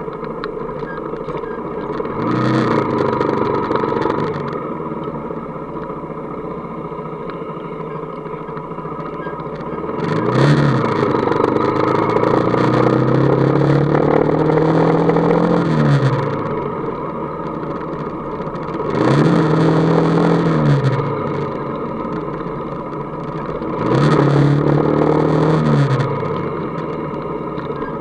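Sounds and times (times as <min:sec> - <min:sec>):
motorcycle engine revving: 0:00.8 - 0:28.0.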